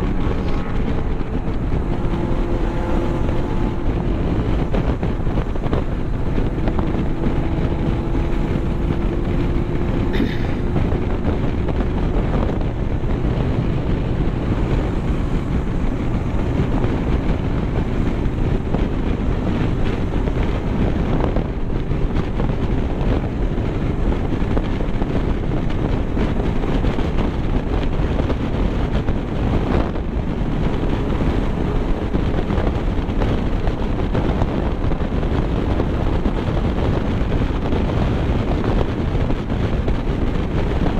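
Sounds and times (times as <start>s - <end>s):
road noise: 0.0s - 40.9s
vehicle engine: 0.0s - 40.9s
wind rushing over microphone: 0.0s - 40.9s.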